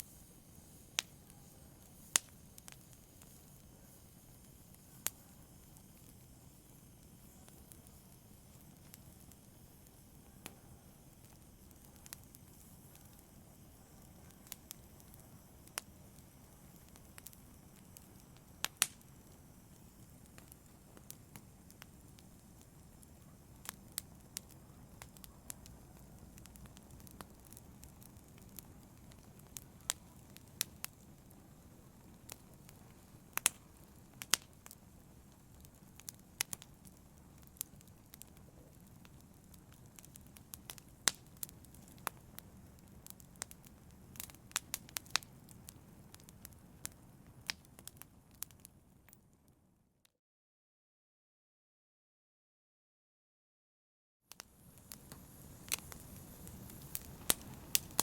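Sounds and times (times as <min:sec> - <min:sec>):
wood fire crackling and popping: 0:00.0 - 0:49.6, 0:54.3 - 0:58.0
low rumble of flame: 0:00.0 - 0:49.7, 0:54.4 - 0:58.0.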